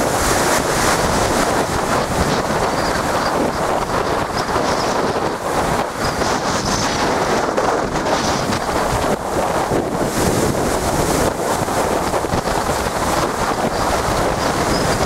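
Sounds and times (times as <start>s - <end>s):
storm waves breaking against wall: 0.0s - 15.0s
wind buffeting microphone: 0.0s - 15.0s.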